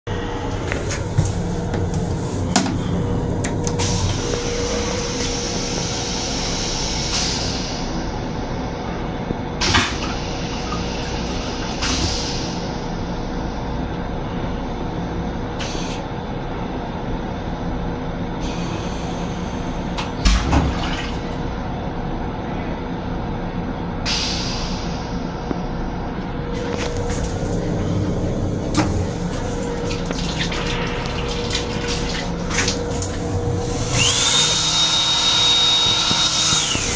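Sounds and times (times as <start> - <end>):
electric train running hum: 0.1 - 36.9.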